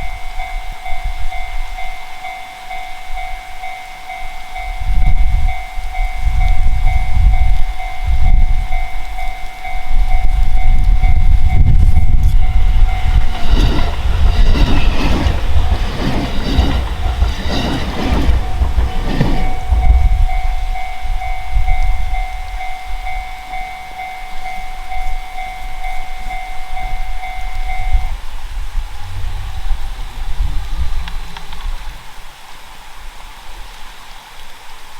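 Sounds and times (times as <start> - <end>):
train wheels clacking on rails: 0.0 - 28.3.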